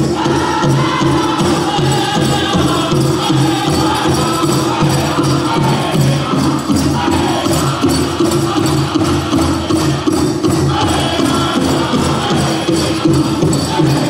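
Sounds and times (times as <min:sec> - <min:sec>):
big drum steady beat: 0:00.0 - 0:14.0
drum group singing: 0:00.0 - 0:14.0.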